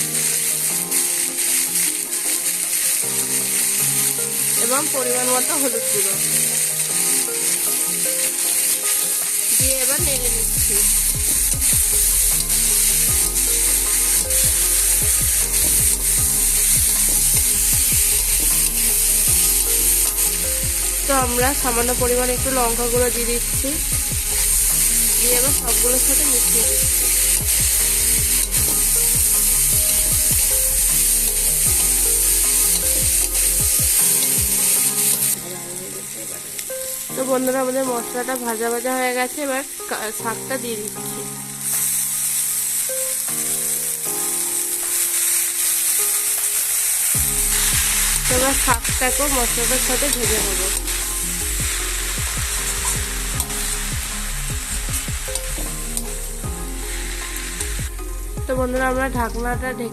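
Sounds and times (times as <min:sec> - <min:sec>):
food sizzling in a pan: 0:00.0 - 0:57.8.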